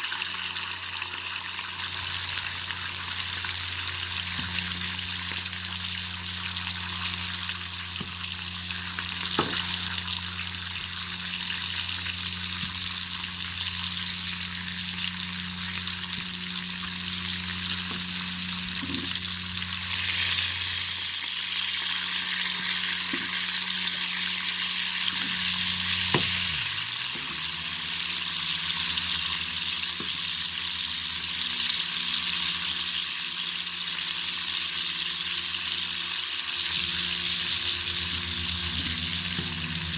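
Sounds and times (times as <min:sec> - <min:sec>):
bacon sizzling in a pan: 0:00.0 - 0:39.9.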